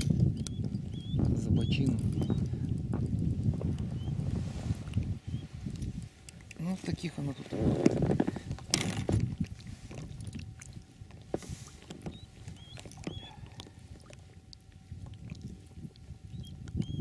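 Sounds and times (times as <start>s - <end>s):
water splashing and slapping: 1.2s - 16.8s.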